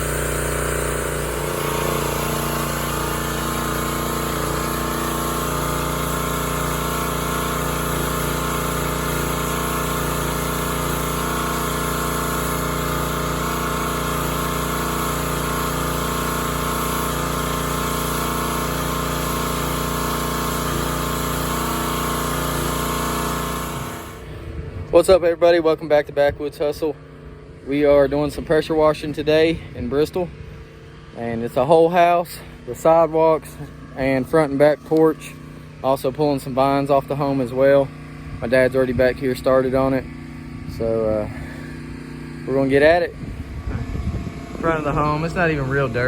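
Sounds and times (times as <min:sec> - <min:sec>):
small gas engine running: 0:00.0 - 0:24.9, 0:28.3 - 0:46.0.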